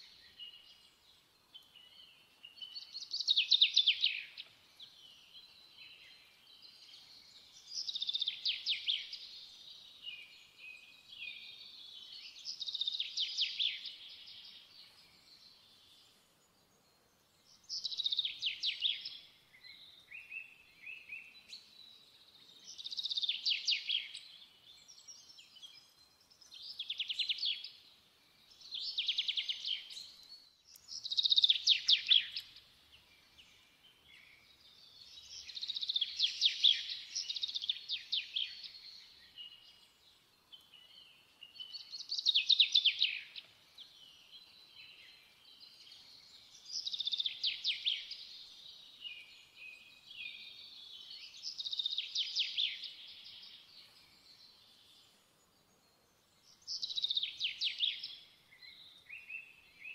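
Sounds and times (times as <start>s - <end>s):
small songbird singing: 0.0s - 59.9s.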